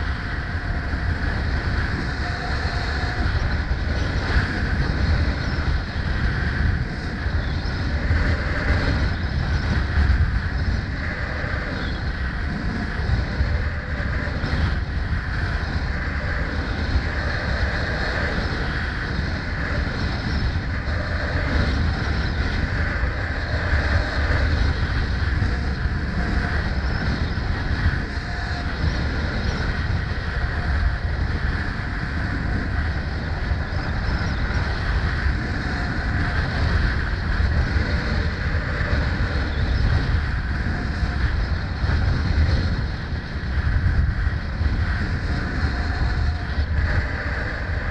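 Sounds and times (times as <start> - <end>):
deep rumble: 0.0 - 47.9
road and traffic noise: 0.0 - 47.9
wind buffeting microphone: 0.0 - 47.9.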